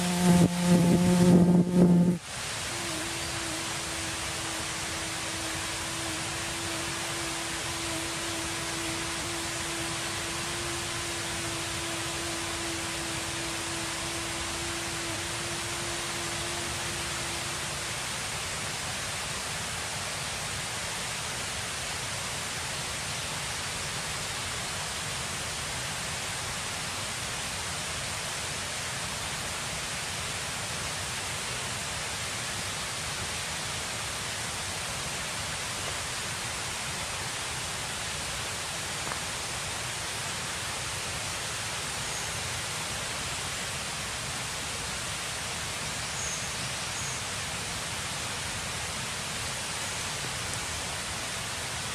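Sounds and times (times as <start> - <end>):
steady outdoor hiss: 0.0 - 51.9.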